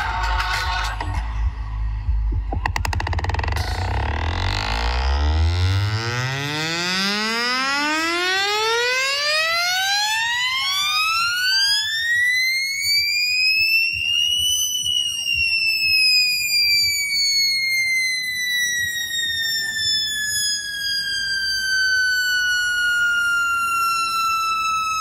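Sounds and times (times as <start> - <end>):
buzzy electronic sweep tone: 1.8 - 25.0.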